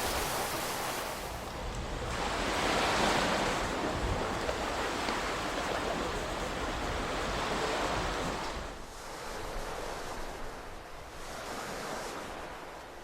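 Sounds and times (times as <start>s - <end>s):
ocean waves breaking on shore: 0.0s - 13.0s.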